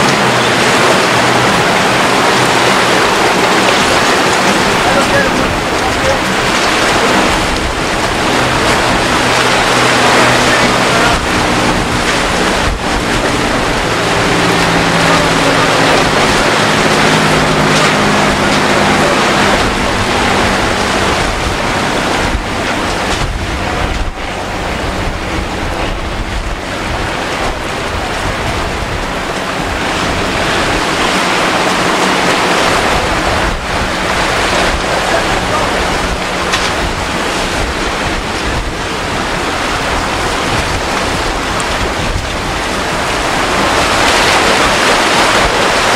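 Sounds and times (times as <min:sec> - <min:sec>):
boat engine hum: 0:00.0 - 0:45.9
surf breaking: 0:00.0 - 0:45.9
wind buffeting microphone: 0:00.0 - 0:45.9.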